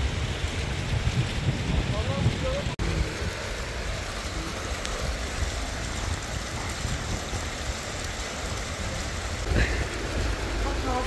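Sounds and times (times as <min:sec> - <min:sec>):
fountain jets splashing into pool: 0:00.0 - 0:11.0
wind rumble on microphone: 0:00.0 - 0:11.0.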